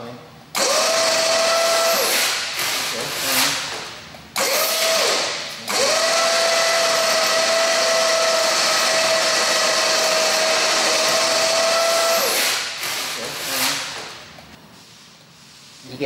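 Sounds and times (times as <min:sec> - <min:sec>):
electric chain hoist whining: 0:00.6 - 0:03.7, 0:04.4 - 0:14.2.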